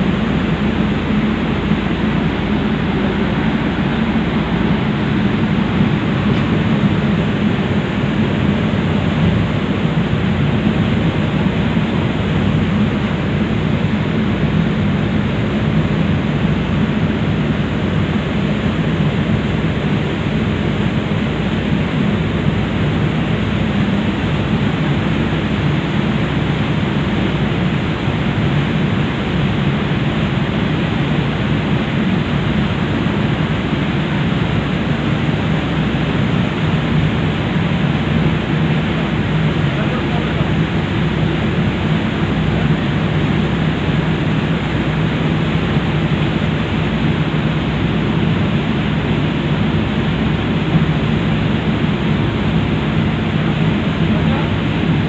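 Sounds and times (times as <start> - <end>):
ferry engine drone: 0.0 - 55.0
wind and water rushing: 0.0 - 55.0.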